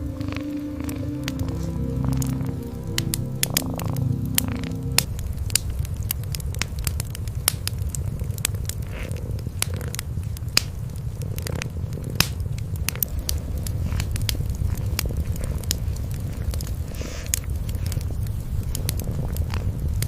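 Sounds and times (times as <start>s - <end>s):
cats purring: 0.0s - 5.1s, 7.6s - 20.0s
wood fire crackling: 0.0s - 20.0s.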